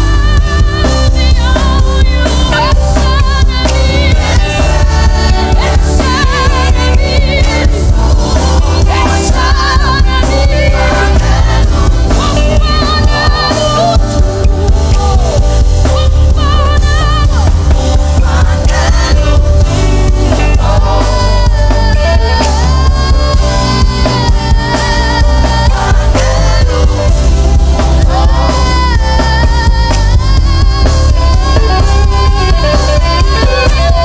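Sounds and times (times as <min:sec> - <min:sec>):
band with strong bass: 0:00.0 - 0:34.0
voices singing with vibrato: 0:00.0 - 0:34.0.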